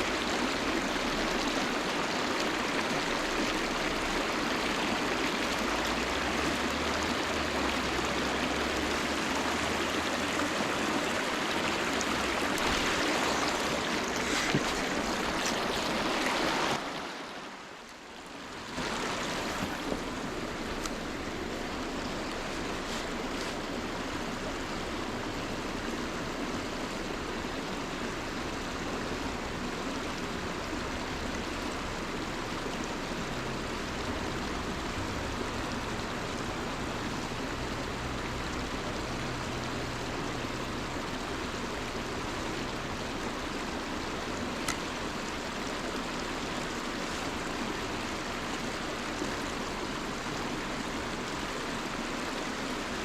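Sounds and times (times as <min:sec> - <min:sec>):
river water rushing over riffle: 0:00.0 - 0:53.0.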